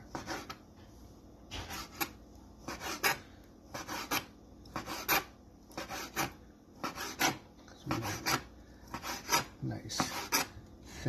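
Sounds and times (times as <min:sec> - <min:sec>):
knife slicing meat: 0:00.0 - 0:00.6, 0:01.5 - 0:10.6.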